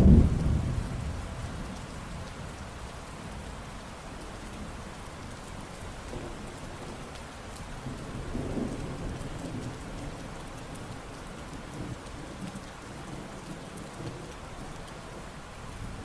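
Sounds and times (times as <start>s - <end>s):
low rumble of thunder: 0.0s - 3.7s, 6.0s - 16.0s
steady rain falling: 0.0s - 16.0s.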